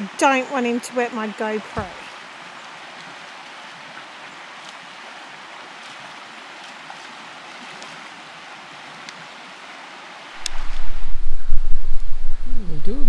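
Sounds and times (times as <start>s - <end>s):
creek running over stones: 0.0s - 11.2s.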